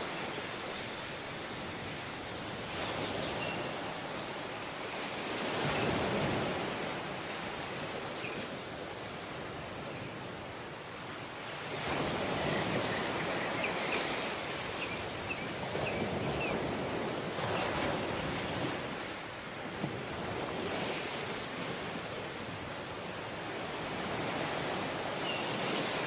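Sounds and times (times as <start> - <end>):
surf breaking on a beach: 0.0 - 26.0.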